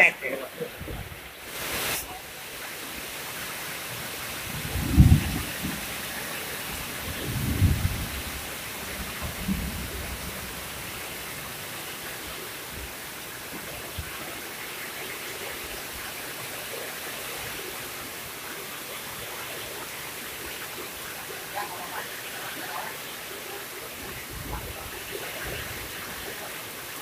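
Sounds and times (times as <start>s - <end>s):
heavy rain on pond water: 0.0s - 27.0s.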